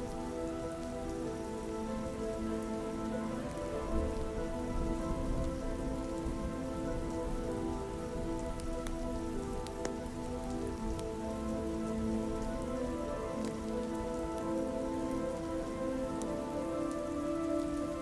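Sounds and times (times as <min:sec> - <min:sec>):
ambient music pad: 0:00.0 - 0:18.0
soft rain: 0:00.0 - 0:18.0.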